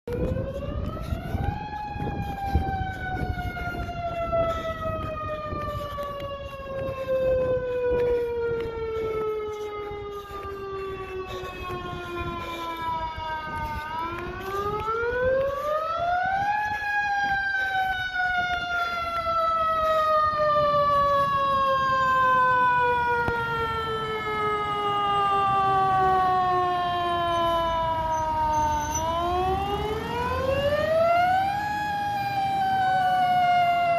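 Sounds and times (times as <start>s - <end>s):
fire siren wailing: 0.0s - 33.9s.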